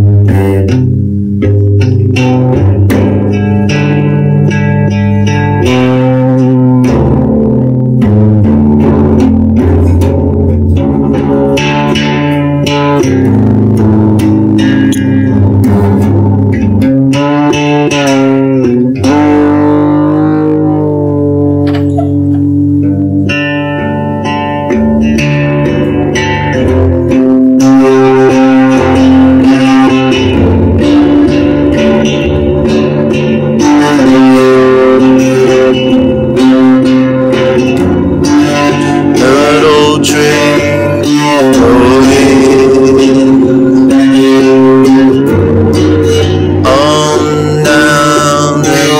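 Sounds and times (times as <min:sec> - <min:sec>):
bass guitar: 0:00.0 - 0:48.9
guitar-led song: 0:00.0 - 0:48.9.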